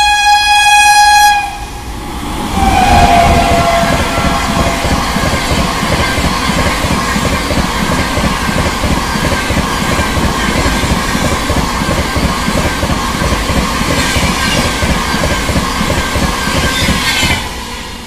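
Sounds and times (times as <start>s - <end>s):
train passing with rumble: 0.9s - 18.0s
wheels clattering on rail: 2.6s - 17.6s.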